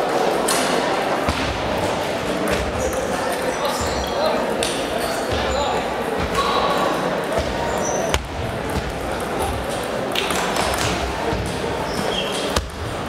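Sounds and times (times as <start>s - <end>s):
background chatter in sports hall: 0.0s - 13.0s.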